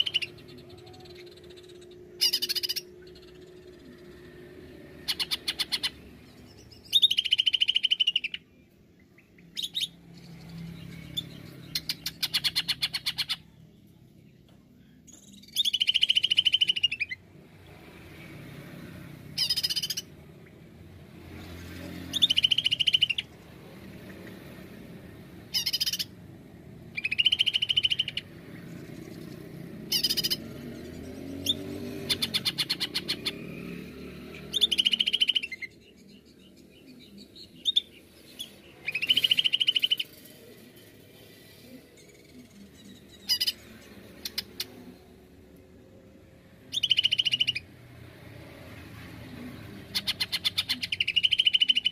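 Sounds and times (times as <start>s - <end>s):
bird singing: 0.0s - 17.2s, 19.4s - 20.5s, 21.8s - 24.2s, 25.4s - 26.2s, 26.9s - 45.0s, 46.6s - 47.8s, 49.9s - 51.9s.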